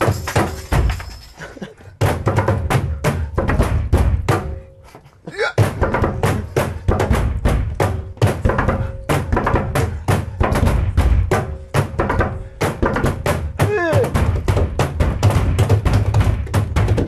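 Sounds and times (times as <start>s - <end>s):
mallets drumming on window and panels: 0.0s - 4.8s, 5.6s - 17.0s
hands beating a ledge and table: 2.0s - 4.6s, 5.6s - 17.0s.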